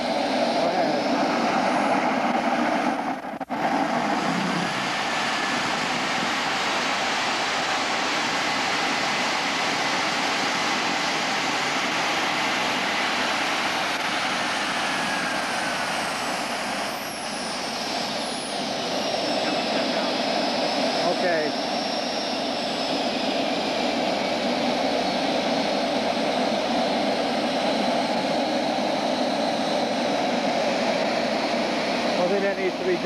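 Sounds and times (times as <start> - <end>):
jet turbine running: 0.0 - 33.0.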